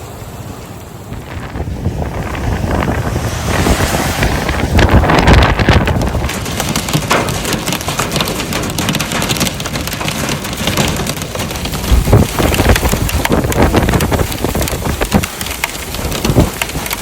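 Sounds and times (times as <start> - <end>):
heavy rain falling: 0.0 - 17.0
wind buffeting microphone: 0.9 - 17.0.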